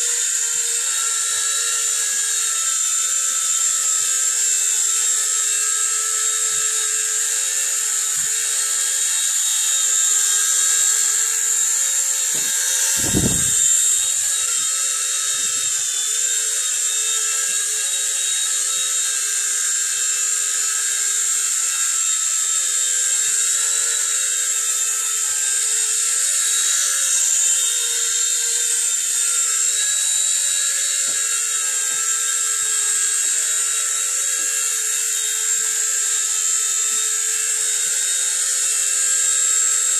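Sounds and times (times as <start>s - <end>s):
small helicopter motor whine: 0.0s - 39.9s.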